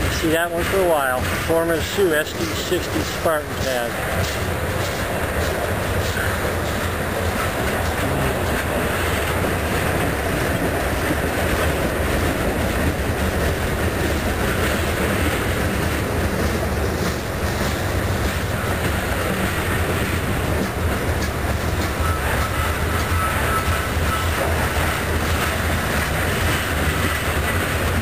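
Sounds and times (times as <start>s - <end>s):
train wheels running on rails: 0.0s - 28.0s.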